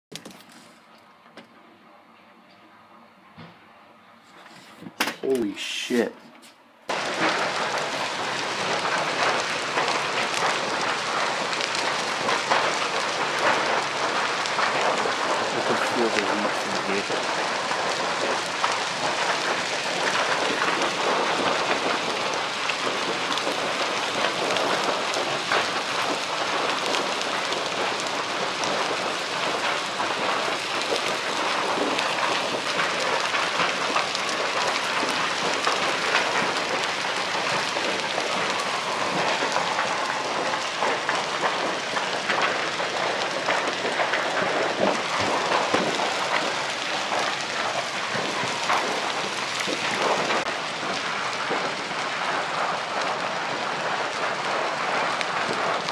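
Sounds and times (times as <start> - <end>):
fire crackling: 6.8 - 55.9.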